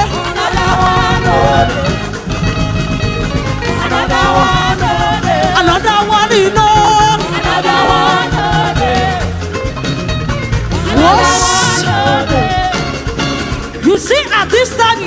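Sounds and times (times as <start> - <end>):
band playing upbeat groove: 0.0 - 15.0
gospel singing: 0.0 - 15.0.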